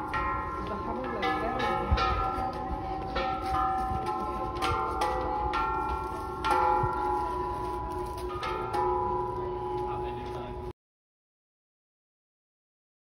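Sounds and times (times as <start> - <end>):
temple bells struck with stick: 0.0 - 10.7.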